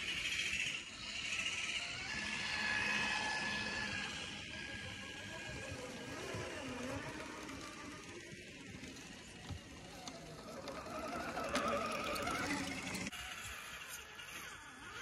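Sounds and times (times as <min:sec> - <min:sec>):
rc truck electric motors whining: 0:00.0 - 0:15.0.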